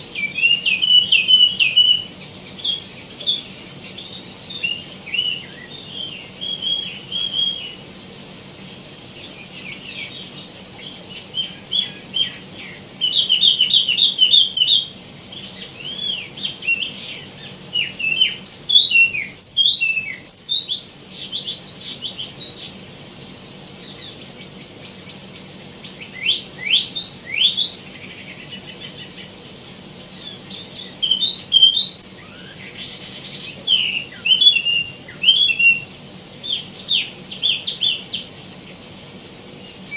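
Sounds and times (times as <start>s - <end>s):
songbird singing: 0.0s - 8.0s, 9.1s - 22.8s, 23.8s - 38.4s.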